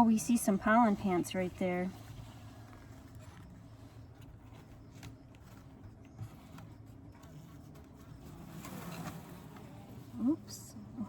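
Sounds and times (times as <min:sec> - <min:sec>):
honeybees humming: 0:00.0 - 0:11.0.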